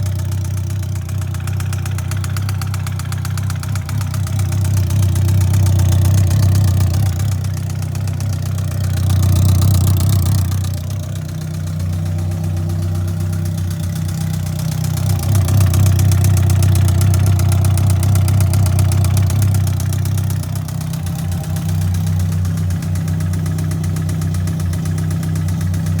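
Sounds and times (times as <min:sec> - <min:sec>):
engine knocking: 0:00.0 - 0:26.0
motorcycle engine idling: 0:00.0 - 0:26.0.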